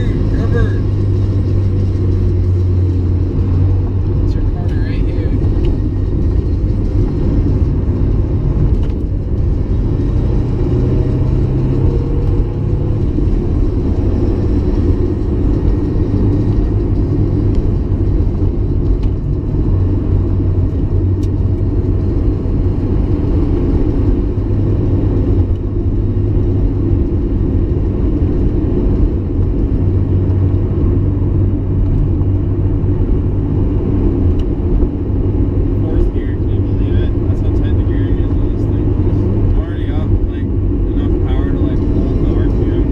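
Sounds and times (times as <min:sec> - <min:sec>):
car engine while driving: 0:00.0 - 0:42.9
road rumble: 0:00.0 - 0:42.9.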